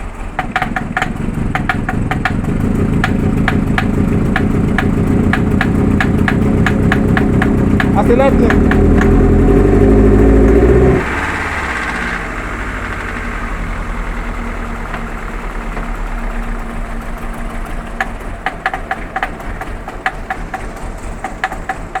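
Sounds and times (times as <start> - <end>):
car engine idling: 0.0 - 22.0
sharp irregular clicks: 0.4 - 22.0.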